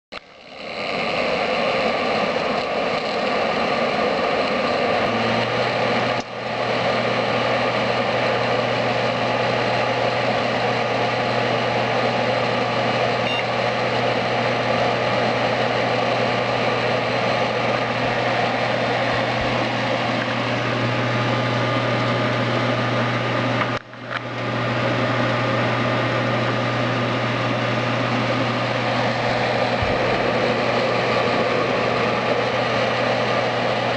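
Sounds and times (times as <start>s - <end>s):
computer fans whirring: 0.1s - 33.9s
low hum: 0.2s - 33.9s.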